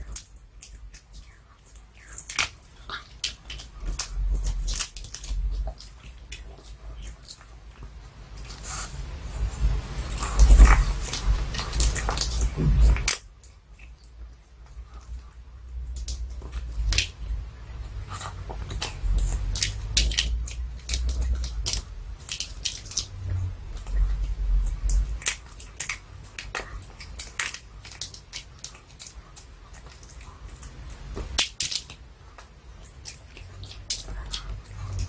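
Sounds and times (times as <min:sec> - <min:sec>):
dog crunching a hard chew: 0:00.0 - 0:08.9, 0:10.0 - 0:14.0, 0:15.9 - 0:35.0.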